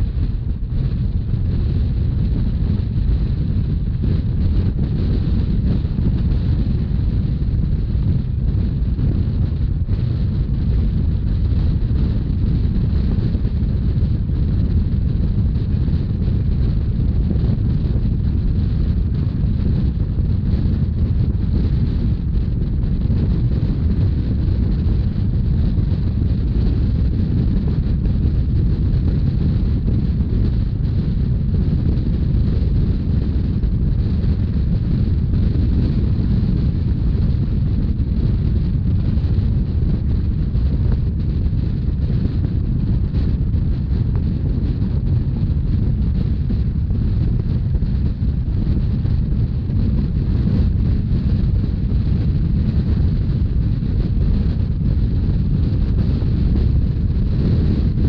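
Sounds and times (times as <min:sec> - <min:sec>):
train rumbling at speed: 0:00.0 - 0:58.0
wind buffeting microphone: 0:00.0 - 0:58.0.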